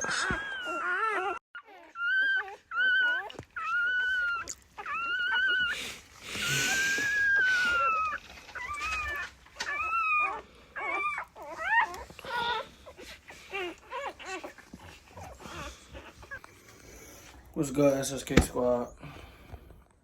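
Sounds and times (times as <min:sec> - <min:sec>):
newborn puppies crying: 0:00.0 - 0:19.4.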